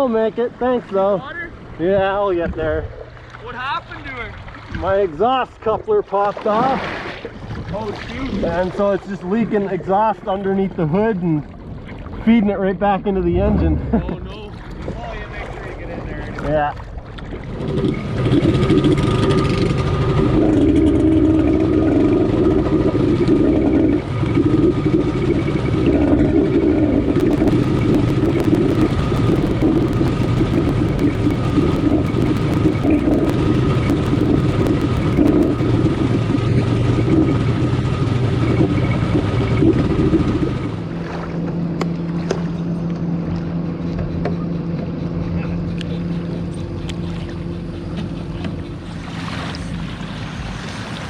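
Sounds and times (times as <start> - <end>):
jet ski engine running: 0.0 - 51.0.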